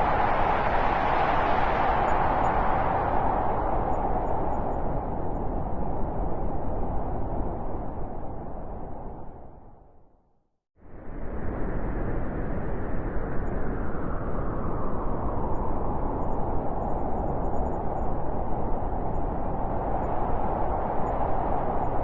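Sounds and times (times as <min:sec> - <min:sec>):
blizzard wind blowing: 0:00.0 - 0:10.0, 0:10.8 - 0:22.0.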